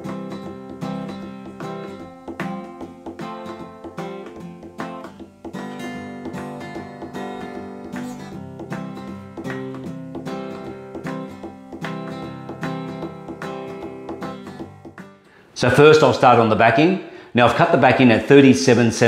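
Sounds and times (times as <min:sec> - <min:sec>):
acoustic guitar instrumental music: 0:00.0 - 0:16.2.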